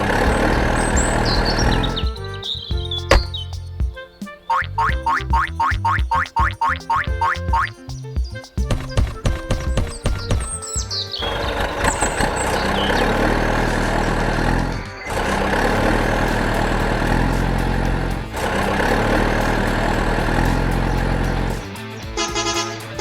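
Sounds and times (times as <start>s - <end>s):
heavy vehicle engine rumbling: 0.0s - 4.0s, 4.6s - 23.0s
rhythmic pitched tones: 0.0s - 23.0s.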